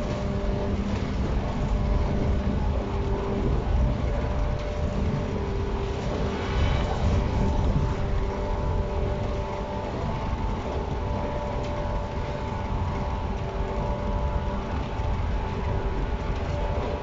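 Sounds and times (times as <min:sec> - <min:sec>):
steady whining tones: 0:00.0 - 0:17.0
train equipment hum and rumble: 0:00.0 - 0:17.0.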